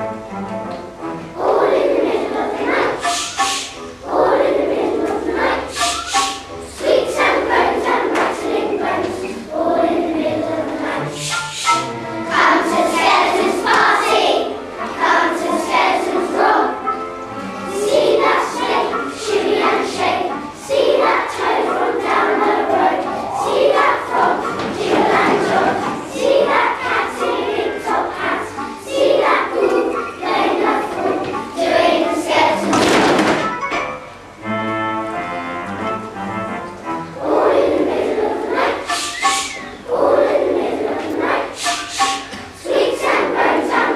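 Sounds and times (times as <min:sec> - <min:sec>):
children's choir singing: 0:00.0 - 0:43.9
instrumental accompaniment: 0:00.0 - 0:43.9.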